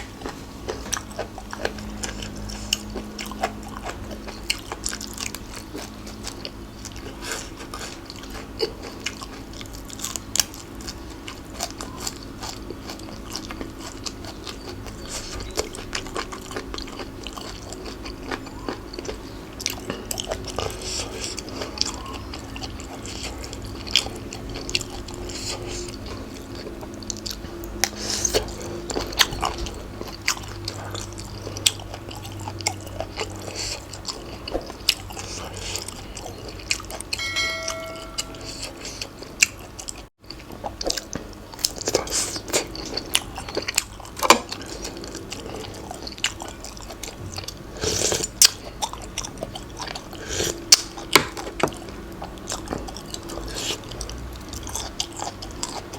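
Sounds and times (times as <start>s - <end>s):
person chewing with wet crunches: 0.0s - 55.9s
steady low hum: 0.0s - 55.9s.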